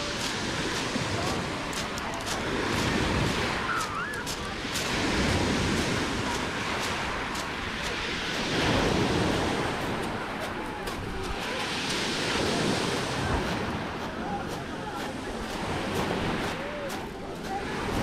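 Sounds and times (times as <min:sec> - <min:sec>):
small waves on pebble beach: 0:00.0 - 0:18.0.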